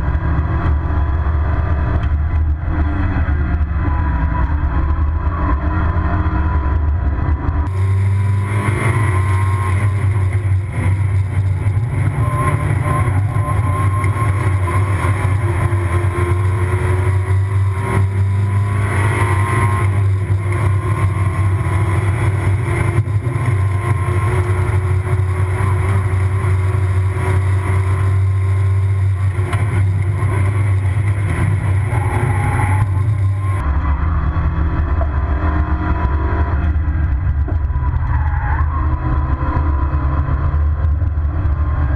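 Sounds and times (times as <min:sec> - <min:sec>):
car engine drone in cabin: 0:00.0 - 0:41.9.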